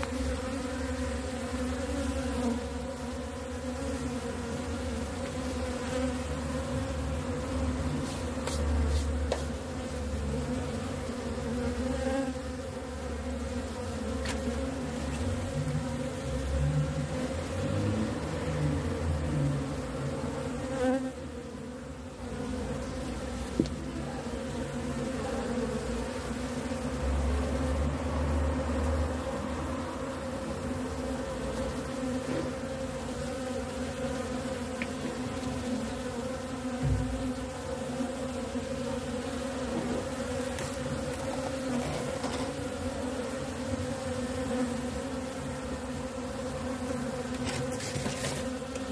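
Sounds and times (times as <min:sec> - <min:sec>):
honeybees buzzing: 0:00.0 - 0:48.9.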